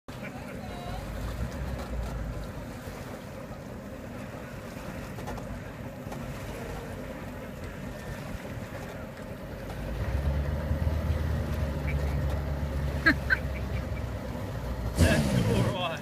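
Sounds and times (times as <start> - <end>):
paddle wheel churning water: 0.1 - 16.0.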